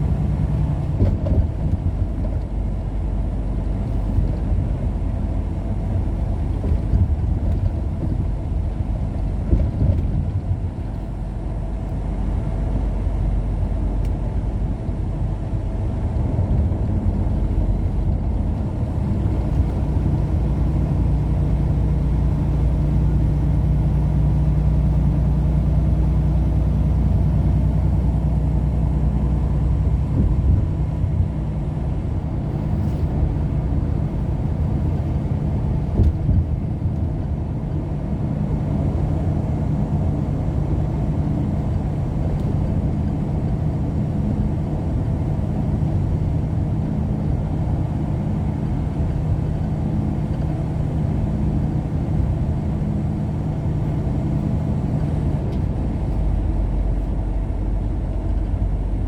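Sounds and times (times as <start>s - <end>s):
vehicle engine hum and road rumble: 0.0s - 59.0s.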